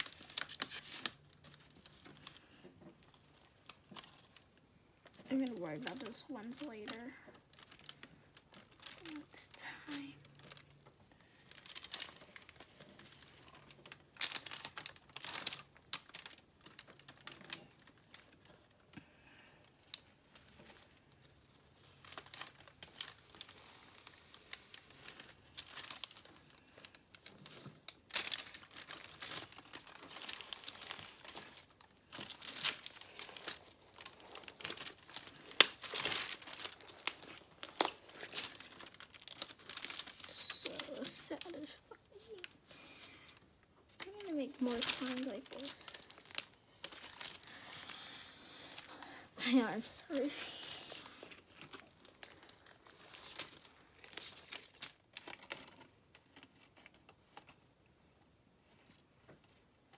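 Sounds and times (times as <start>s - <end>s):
slime crackling and crinkling: 0.0s - 59.9s.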